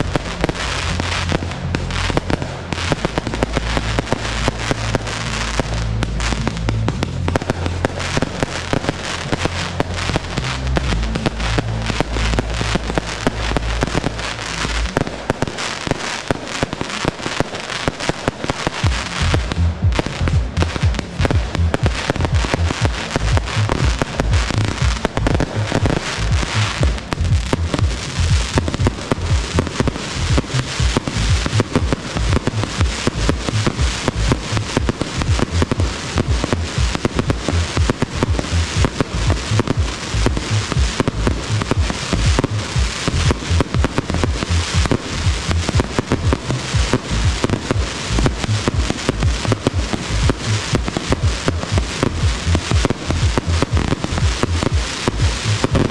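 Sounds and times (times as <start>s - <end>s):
fireworks bursting: 0.0s - 55.9s
music with bass line: 0.0s - 55.9s.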